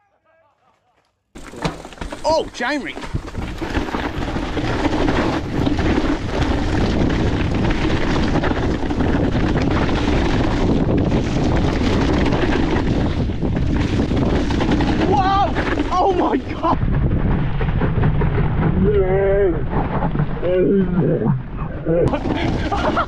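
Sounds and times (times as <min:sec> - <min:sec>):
tyre noise on dirt trail: 0:00.0 - 0:23.0
bike rattling over rocks: 0:01.4 - 0:20.5, 0:22.1 - 0:23.0
wind rushing over microphone: 0:03.1 - 0:23.0.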